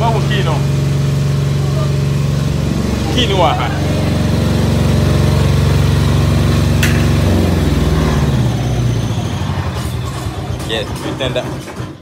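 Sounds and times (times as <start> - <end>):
generator engine running: 0.0 - 11.9.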